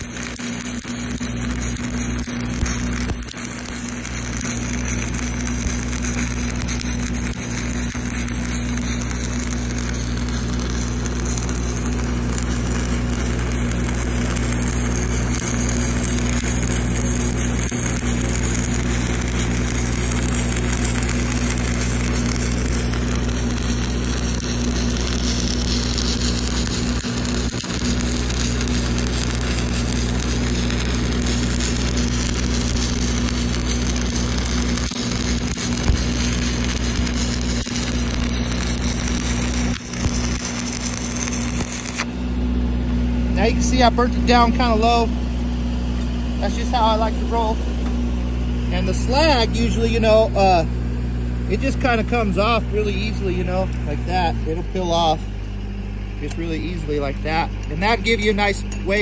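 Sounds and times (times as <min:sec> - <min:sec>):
low hum: 0:00.0 - 0:59.0
welding arc crackling: 0:00.0 - 0:59.0.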